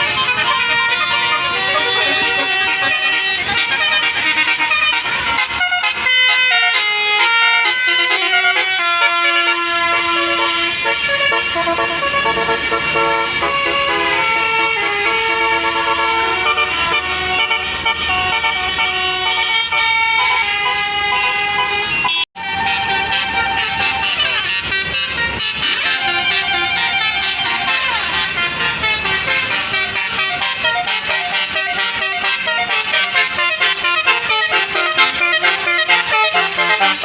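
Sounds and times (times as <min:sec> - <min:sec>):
musical air horn melody: 0:00.0 - 0:37.0.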